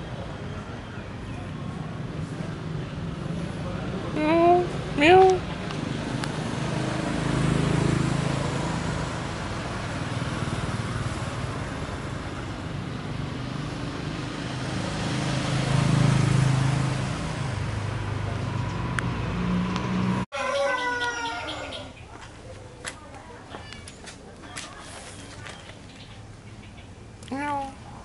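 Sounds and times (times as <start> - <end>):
road traffic hum: 0.0 - 28.0
vehicles passing: 0.0 - 28.0.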